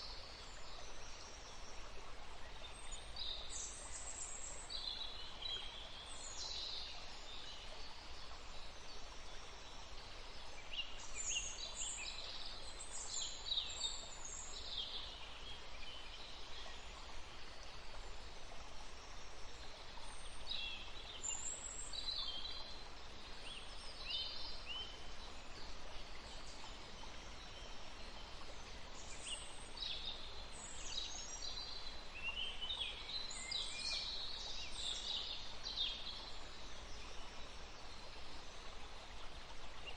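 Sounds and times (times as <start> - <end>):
small songbirds chirping: 0.0 - 39.9
steady background hiss: 0.0 - 39.9.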